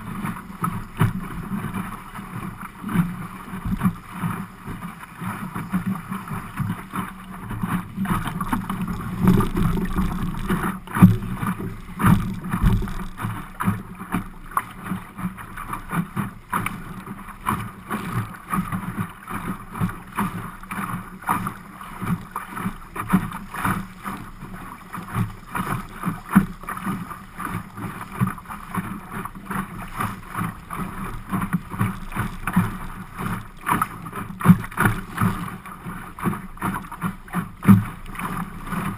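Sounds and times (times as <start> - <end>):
steady water rush: 0.0 - 38.9
water slapping against boat hull: 0.0 - 38.9.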